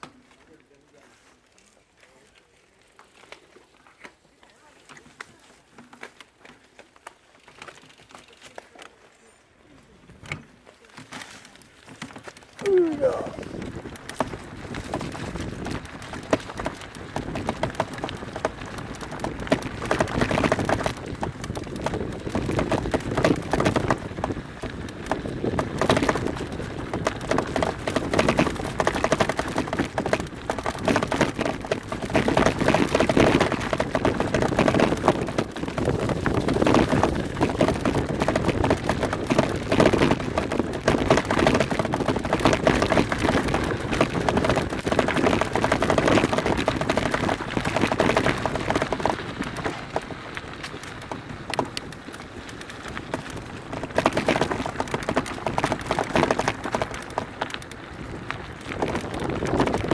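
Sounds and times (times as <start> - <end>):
bike rattling: 0.0 - 59.9
tyres crunching over stones: 10.5 - 59.9.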